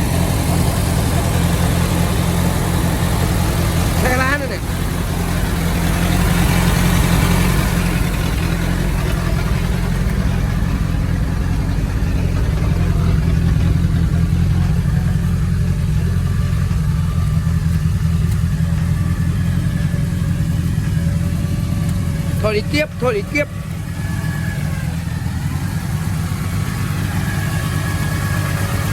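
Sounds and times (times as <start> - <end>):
off-road vehicle engine running: 0.0 - 28.9.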